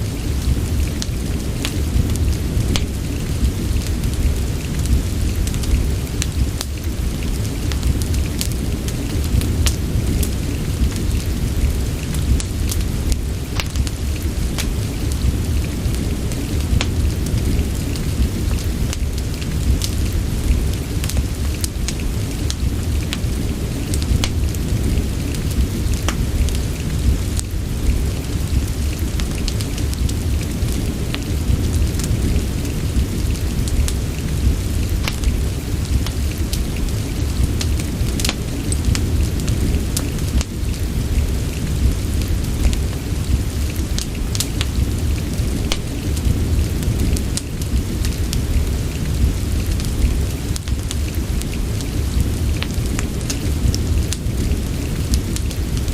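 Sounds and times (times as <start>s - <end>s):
steady rain: 0.0s - 55.9s
wood fire crackling: 0.0s - 55.9s.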